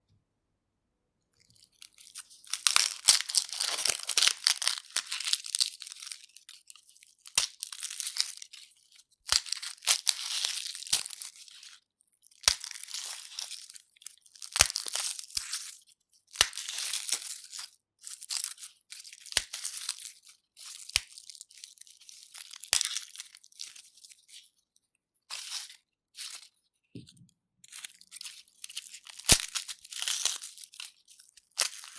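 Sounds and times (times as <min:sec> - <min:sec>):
papery garlic skins crackling: 0:01.6 - 0:24.4, 0:27.7 - 0:31.9.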